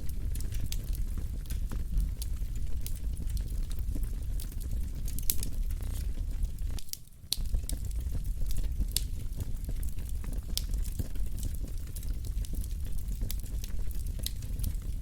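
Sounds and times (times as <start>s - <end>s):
fire crackles and pops: 0.0s - 15.0s
wood fire rumble: 0.0s - 15.0s.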